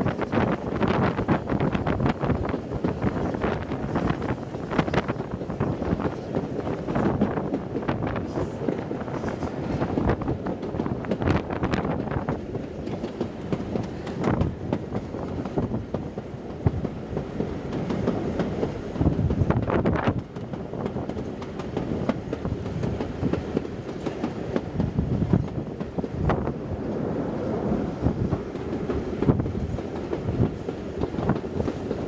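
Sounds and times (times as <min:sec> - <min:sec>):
train rumble: 0:00.0 - 0:32.0.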